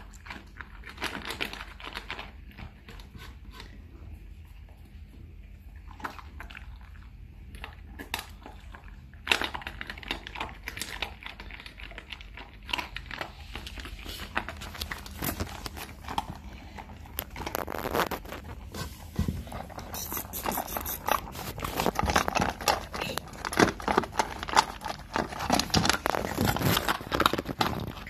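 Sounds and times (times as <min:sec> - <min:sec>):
dog crunching dry kibble: 0:00.0 - 0:04.0, 0:05.6 - 0:28.0.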